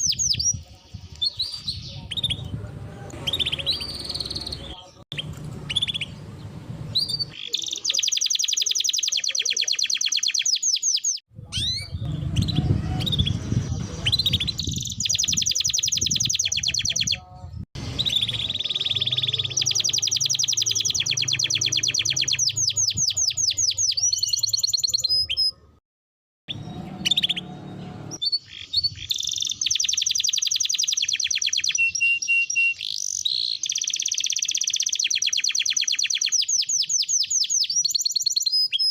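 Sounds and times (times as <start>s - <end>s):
canary singing trills: 0.0s - 25.7s, 26.5s - 38.9s.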